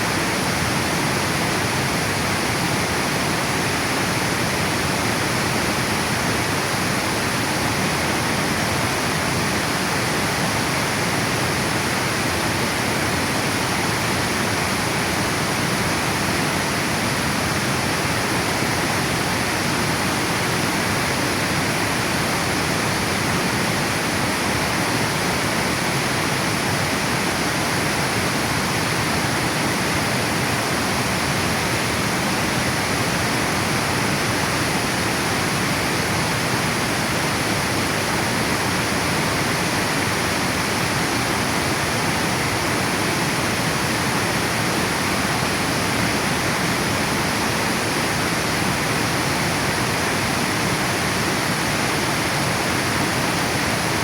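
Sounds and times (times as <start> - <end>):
water falling over a dam: 0.0 - 54.0.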